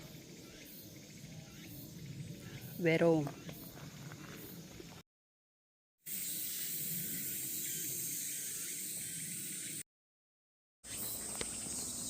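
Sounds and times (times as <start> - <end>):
insects droning: 0.0 - 5.0, 6.1 - 9.8, 10.9 - 12.0.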